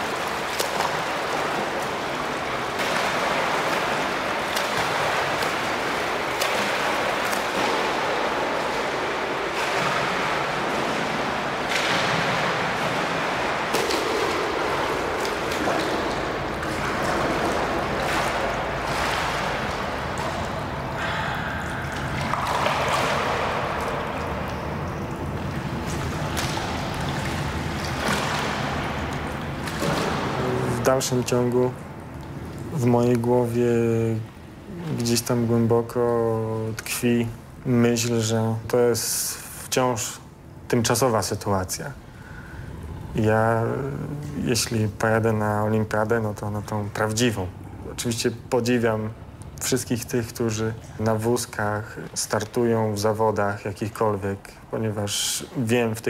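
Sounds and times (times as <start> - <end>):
water splashing from swimming: 0.0 - 38.2, 42.0 - 56.0.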